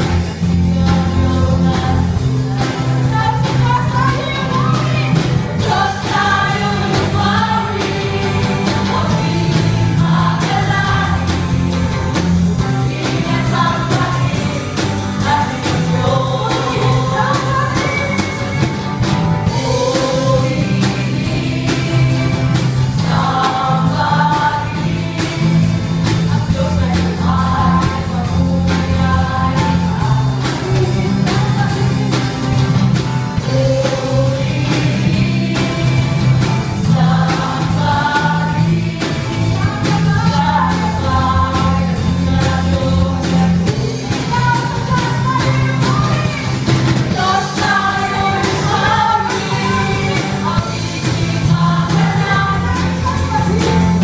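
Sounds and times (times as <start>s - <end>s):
group singing a praise song: 0.0s - 18.8s, 19.4s - 54.0s
amplified backing music: 0.0s - 54.0s.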